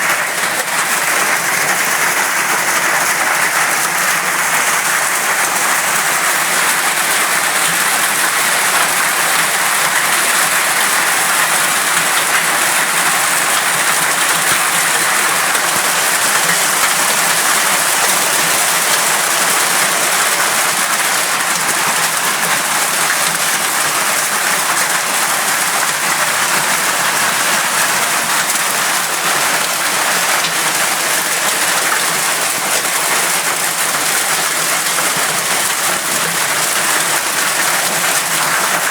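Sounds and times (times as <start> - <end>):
hailstones and heavy rain pelting: 0.0 - 38.9.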